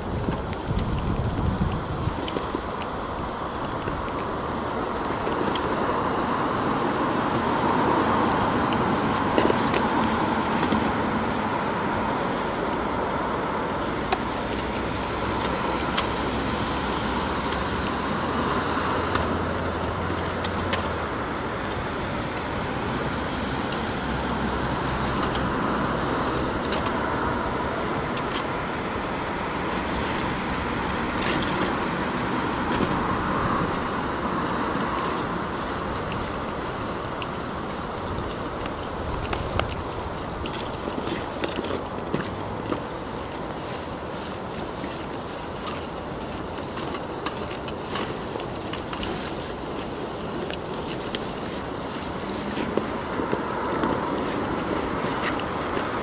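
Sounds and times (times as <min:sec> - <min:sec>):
steady background roar: 0:00.0 - 0:56.0.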